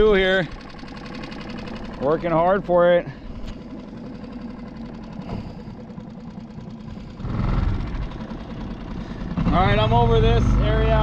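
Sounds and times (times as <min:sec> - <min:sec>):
outboard motor idling: 0:00.0 - 0:11.0.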